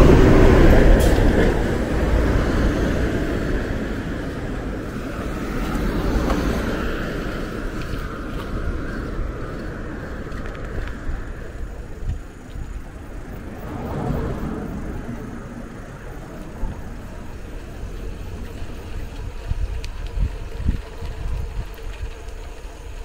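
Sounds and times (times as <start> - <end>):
car passing: 0.0 - 22.8
wind and road noise from bicycle: 0.0 - 23.0.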